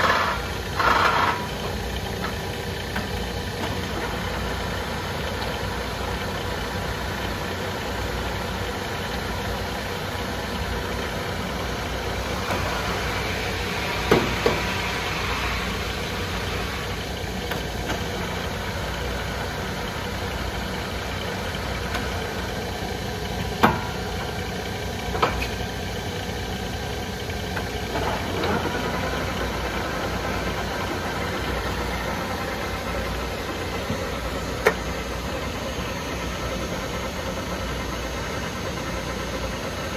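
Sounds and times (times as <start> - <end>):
lathe motor humming: 0.0 - 39.9.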